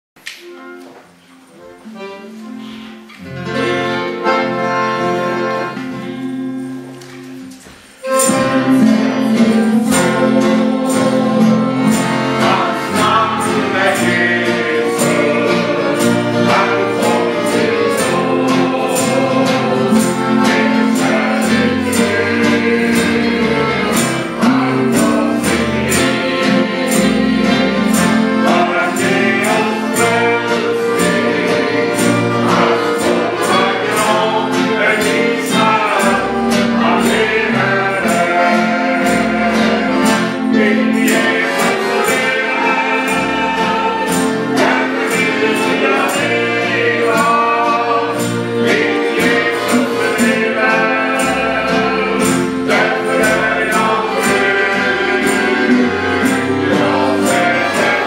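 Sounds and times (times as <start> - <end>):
acoustic guitars strumming: 0.2 - 58.0
accordions playing held chords: 0.3 - 58.0
group singing: 7.4 - 58.0.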